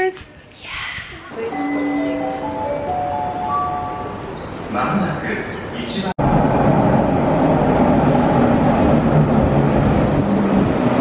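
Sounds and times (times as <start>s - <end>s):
subway train rumbling: 0.7s - 11.0s.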